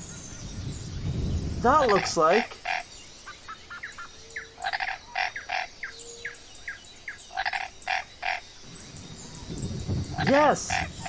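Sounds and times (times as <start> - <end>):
high bird chirps: 0.1 - 11.0
rough bird calls: 1.2 - 11.0.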